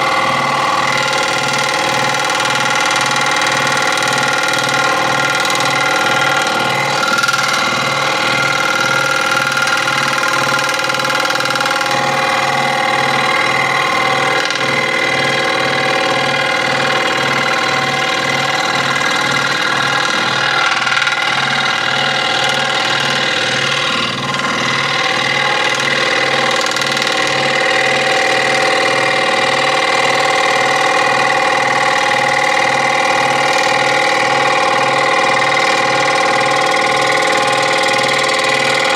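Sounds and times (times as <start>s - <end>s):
electric scroll saw running: 0.0s - 38.9s.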